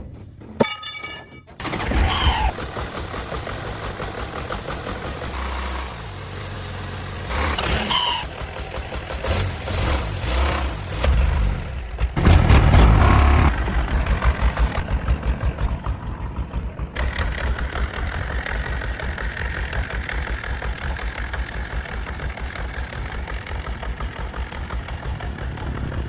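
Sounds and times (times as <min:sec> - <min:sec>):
truck engine revving and idling: 0:01.8 - 0:26.0.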